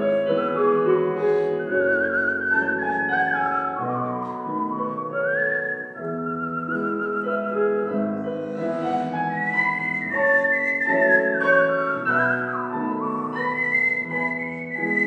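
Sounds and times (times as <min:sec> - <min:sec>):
instrumental accompaniment: 0:00.0 - 0:15.0
person whistling a melody: 0:00.0 - 0:15.0.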